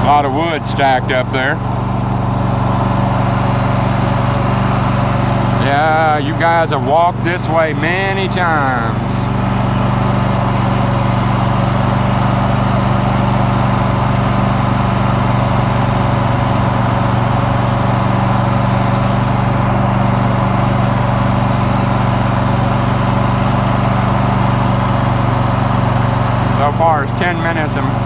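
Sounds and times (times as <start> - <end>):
riding lawn mower engine running: 0.0 - 28.0.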